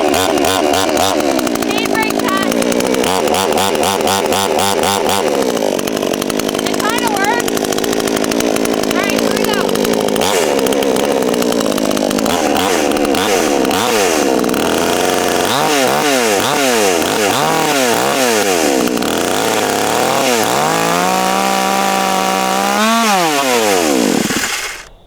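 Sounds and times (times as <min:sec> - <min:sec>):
chainsaw revving: 0:00.0 - 0:25.0.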